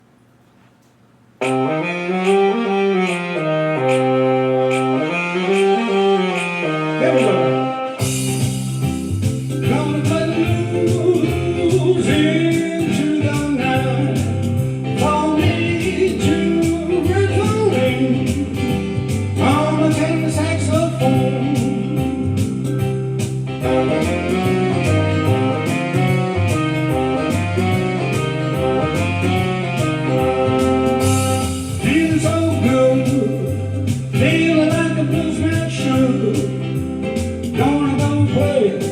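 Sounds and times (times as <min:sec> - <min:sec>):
blues band playing: 0:01.4 - 0:38.9.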